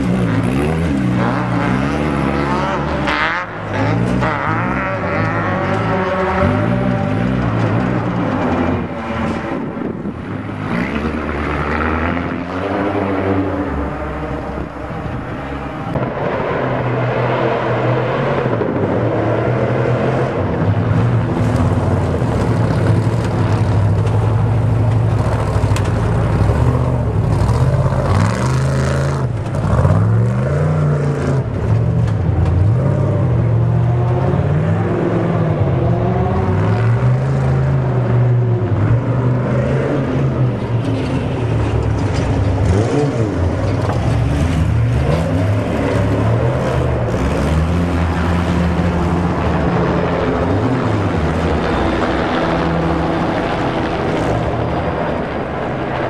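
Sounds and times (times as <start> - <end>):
off-road engines revving: 0.0 - 56.0.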